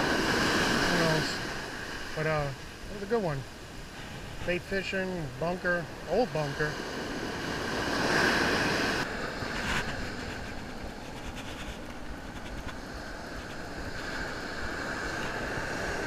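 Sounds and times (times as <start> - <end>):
ocean surf breaking: 0.0 - 16.0
wind: 0.0 - 16.0.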